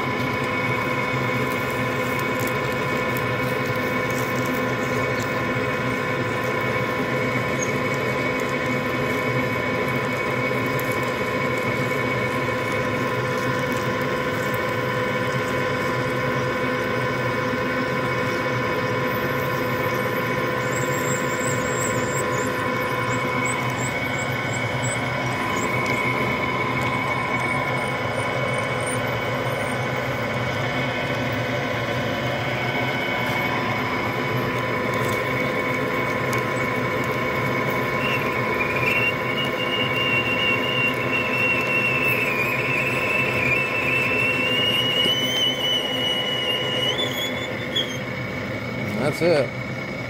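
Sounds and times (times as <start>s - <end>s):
drill press motor hum: 0.0s - 50.0s
drill bit squealing: 0.2s - 49.5s.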